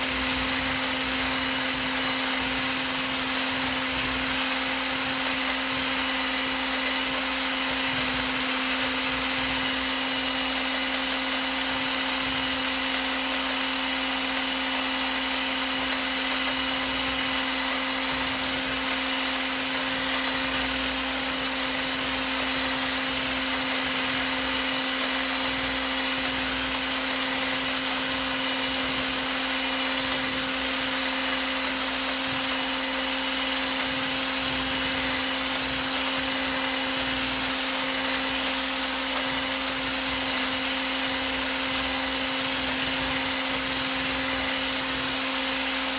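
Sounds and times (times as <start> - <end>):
electric whisk motor humming: 0.0 - 45.9.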